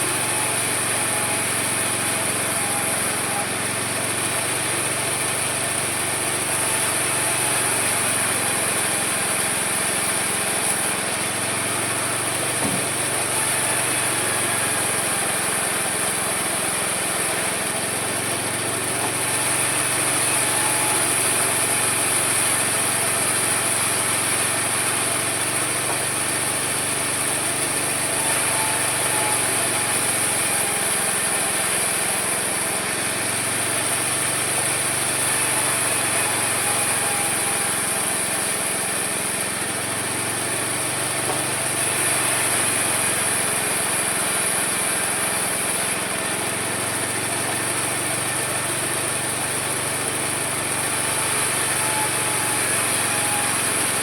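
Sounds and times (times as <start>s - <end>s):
sawmill sawing wood: 0.0s - 54.0s.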